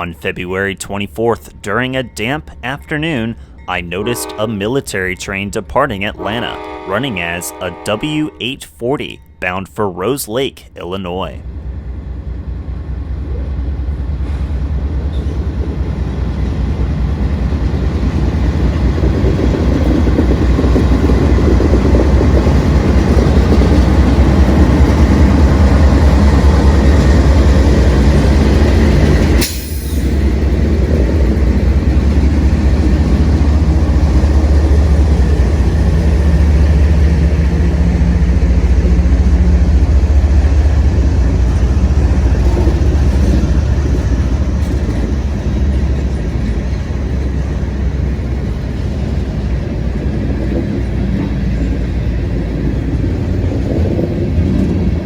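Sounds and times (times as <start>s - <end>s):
train rumble: 0.0s - 9.5s, 11.2s - 55.0s
diesel locomotives droning: 0.0s - 55.0s.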